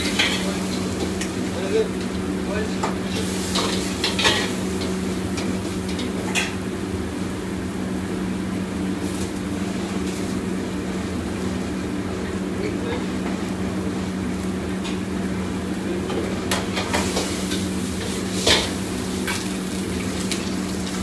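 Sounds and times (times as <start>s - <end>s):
burner and ventilation drone: 0.0s - 21.0s.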